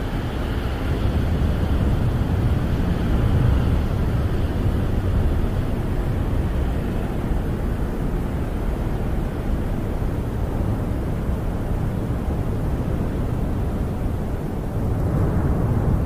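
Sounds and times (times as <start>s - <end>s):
wind blowing against a camper: 0.0s - 16.0s.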